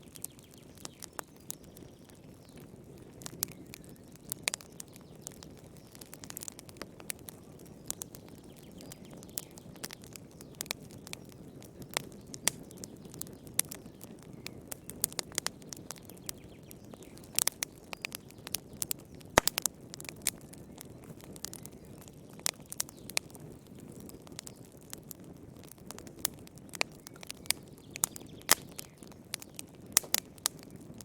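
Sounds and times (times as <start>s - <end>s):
fire crackling and popping: 0.0s - 31.0s
low rumble of flames: 0.0s - 31.0s.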